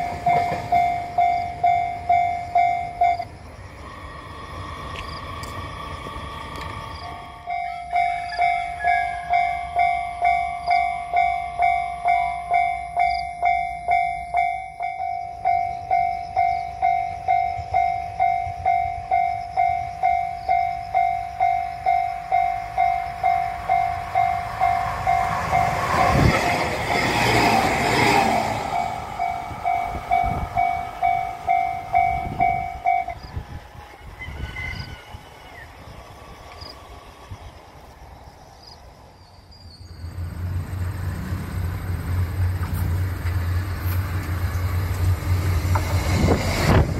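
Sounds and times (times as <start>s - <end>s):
train wheels on rails: 0.0s - 46.9s.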